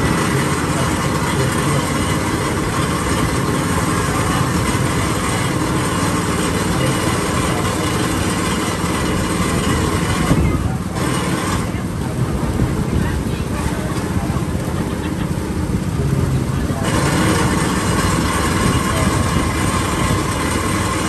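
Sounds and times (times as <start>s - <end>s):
small engines idling: 0.0s - 21.0s.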